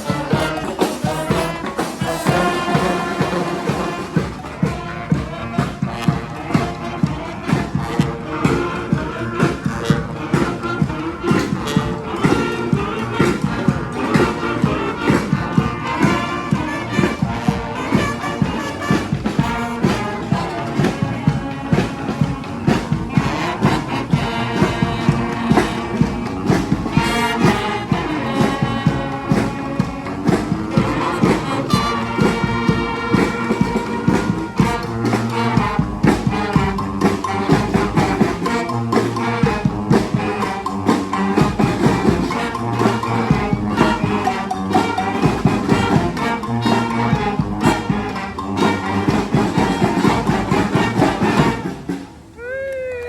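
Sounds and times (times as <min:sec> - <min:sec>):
brass band playing: 0:00.0 - 0:52.4
driving drum beat: 0:00.0 - 0:52.4.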